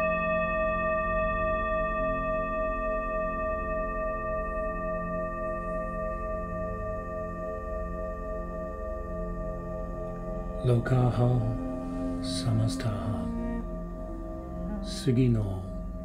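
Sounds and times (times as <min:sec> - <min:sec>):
low drone: 0:00.0 - 0:16.0
singing bowl ringing: 0:00.0 - 0:16.0.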